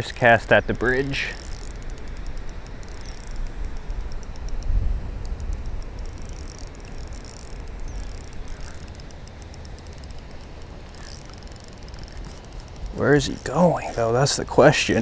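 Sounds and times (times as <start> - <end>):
fishing reel gears ticking: 0.0 - 15.0.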